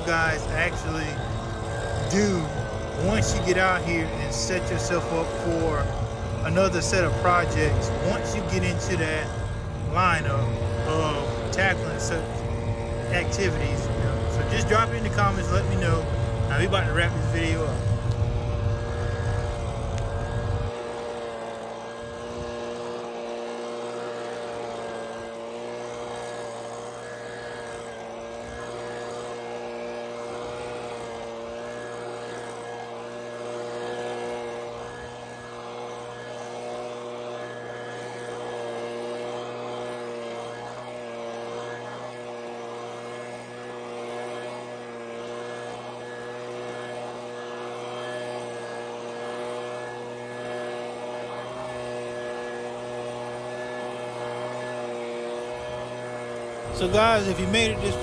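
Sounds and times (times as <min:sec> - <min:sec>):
leaf blower running: 0:00.0 - 0:58.0.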